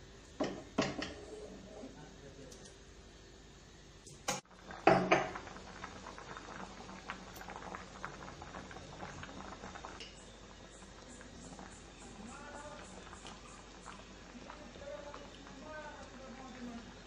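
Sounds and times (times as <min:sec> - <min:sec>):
water boiling with bubbling pops: 0:00.2 - 0:01.7, 0:04.0 - 0:17.0.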